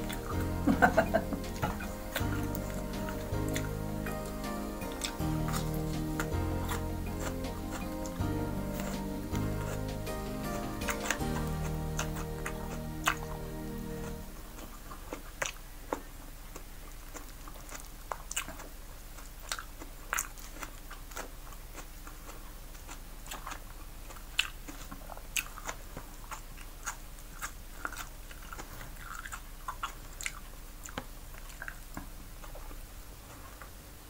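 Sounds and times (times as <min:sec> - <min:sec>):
person chewing: 0:00.0 - 0:33.8
faint steady hum: 0:00.0 - 0:34.0.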